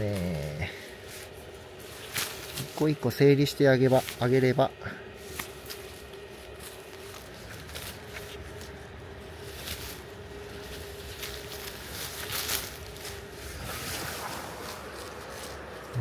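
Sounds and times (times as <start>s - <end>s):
faint steady hum: 0.0s - 16.0s
leaves rustling: 0.0s - 16.0s
pruning shears snipping: 0.0s - 16.0s.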